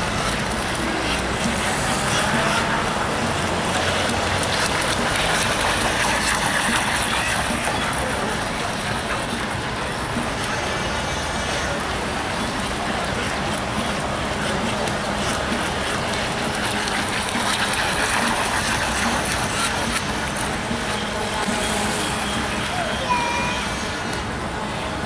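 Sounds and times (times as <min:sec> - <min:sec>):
faint voices of people: 0:00.0 - 0:25.0.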